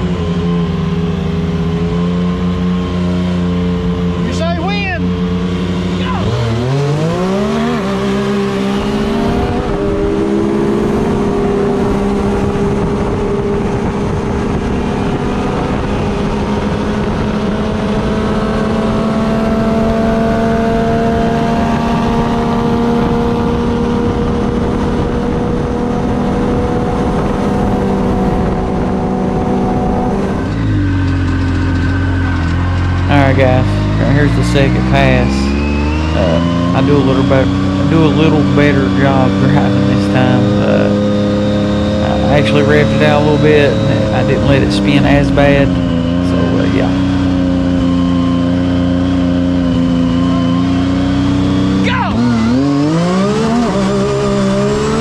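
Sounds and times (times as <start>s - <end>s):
engine running at high revs: 0.0s - 55.0s.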